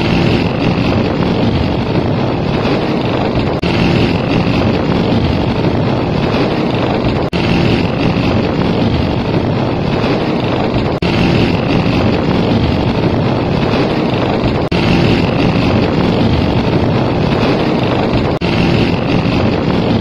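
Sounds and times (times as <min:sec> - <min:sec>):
motorcycle engine rumbling: 0:00.0 - 0:20.0
wind noise: 0:00.0 - 0:20.0.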